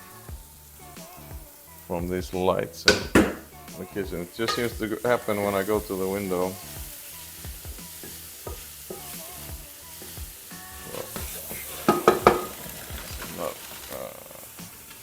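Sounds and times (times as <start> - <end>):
potatoes sizzling in a pan: 0.0 - 15.0
stirring in a pan: 2.8 - 15.0.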